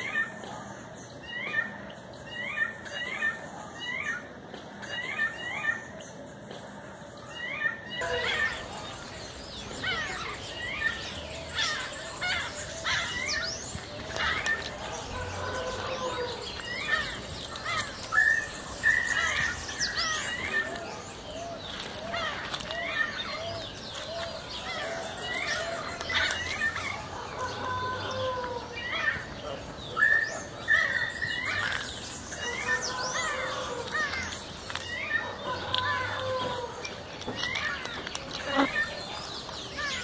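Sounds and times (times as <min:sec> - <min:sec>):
birds calling and singing: 0:00.0 - 0:40.0.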